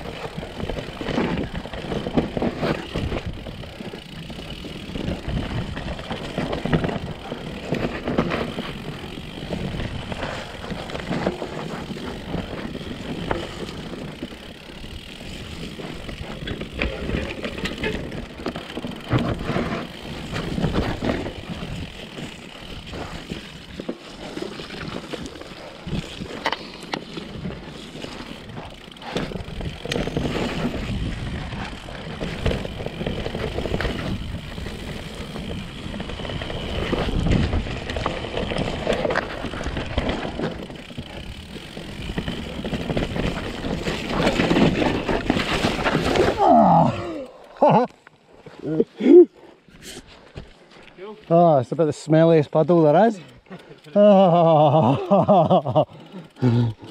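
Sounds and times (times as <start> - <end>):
bike knocking and rattling: 0.0 - 56.9
bike tyres rolling over dirt: 0.0 - 56.9.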